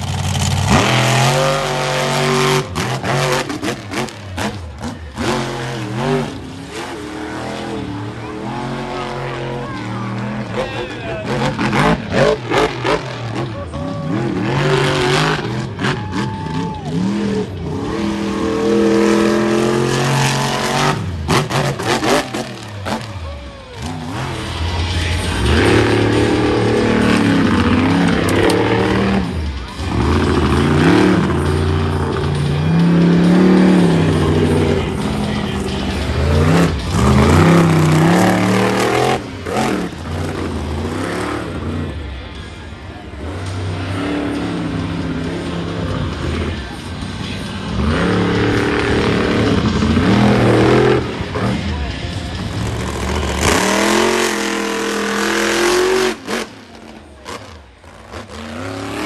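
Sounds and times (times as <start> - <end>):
truck engine revving hard: 0.0 - 59.0.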